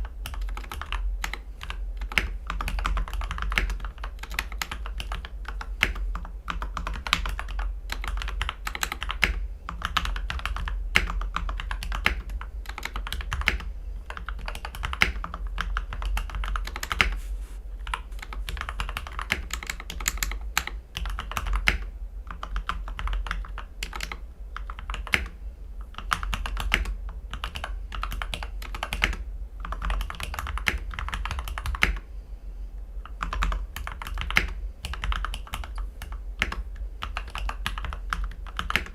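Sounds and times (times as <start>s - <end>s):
mechanical keyboard typing: 0.0s - 17.2s, 17.8s - 25.4s, 26.0s - 32.0s, 33.0s - 38.9s
constant low hum: 0.0s - 38.9s.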